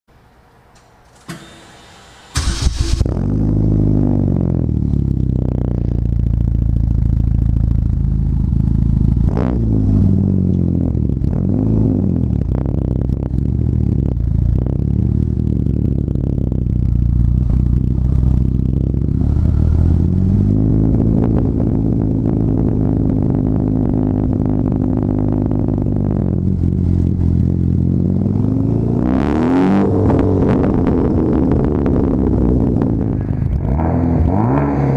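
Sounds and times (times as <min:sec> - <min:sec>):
loud car engine idling and revving: 0:01.2 - 0:34.9.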